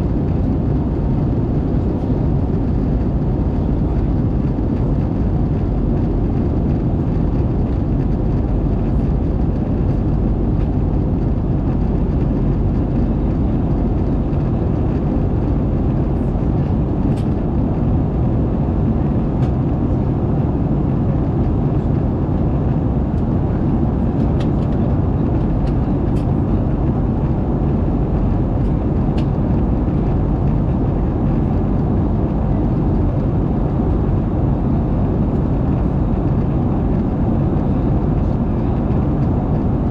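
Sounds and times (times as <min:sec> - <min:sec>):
aircraft cabin engine roar: 0:00.0 - 0:39.9.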